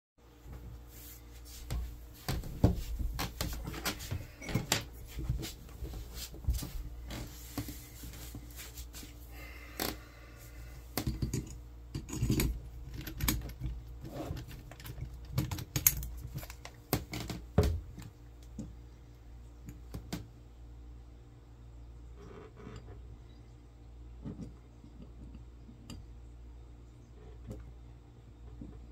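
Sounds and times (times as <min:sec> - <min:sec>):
low steady hum: 0:00.2 - 0:28.9.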